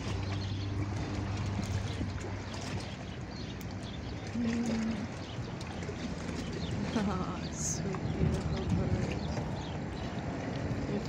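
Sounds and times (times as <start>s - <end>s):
low steady hum: 0.0s - 11.0s
water lapping against rocky shore: 0.0s - 11.0s.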